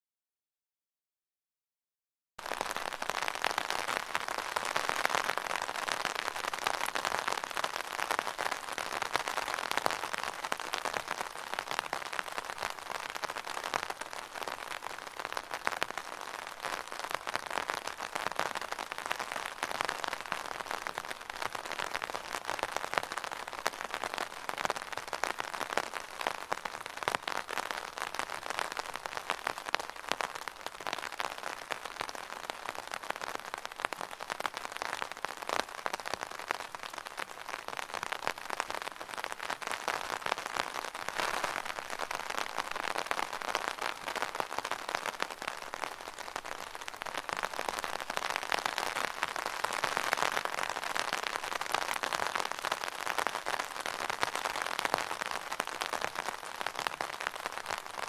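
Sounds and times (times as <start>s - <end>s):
rain on umbrella: 2.4s - 58.0s.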